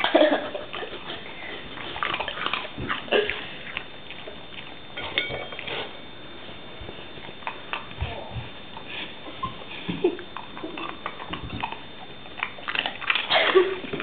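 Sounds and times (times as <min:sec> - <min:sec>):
dog chewing food: 0:00.0 - 0:14.0.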